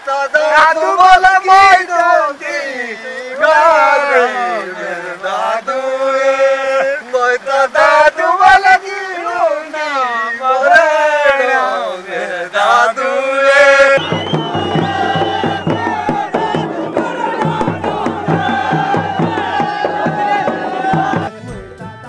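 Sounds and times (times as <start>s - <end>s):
crowd of men chanting and shouting: 0.0s - 22.0s
men singing folk song: 0.0s - 22.0s.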